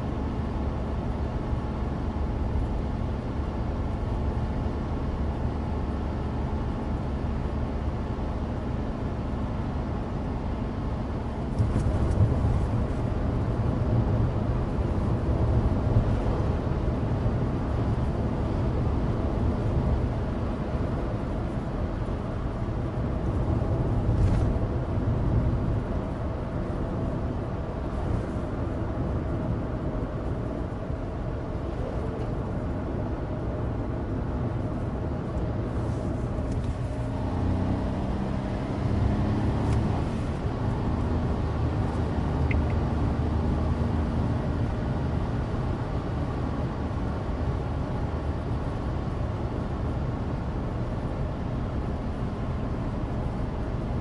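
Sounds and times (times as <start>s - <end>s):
car engine drone: 0.0s - 54.0s
tyres humming on road: 0.0s - 54.0s.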